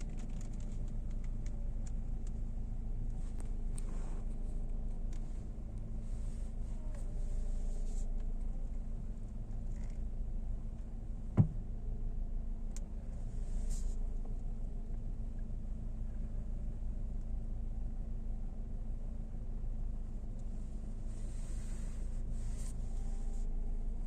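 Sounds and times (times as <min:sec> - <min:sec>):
car running hum: 0:00.0 - 0:24.0.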